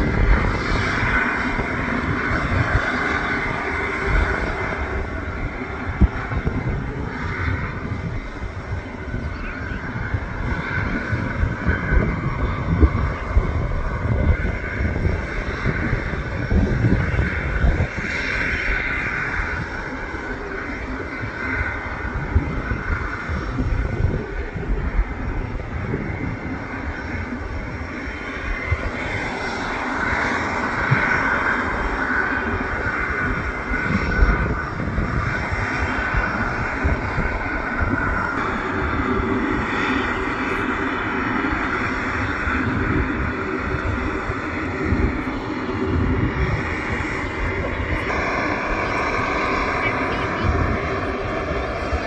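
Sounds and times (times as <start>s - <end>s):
jet engines running: 0.0s - 52.0s
low rumbles: 0.0s - 52.0s
wind buffeting microphone: 0.0s - 52.0s.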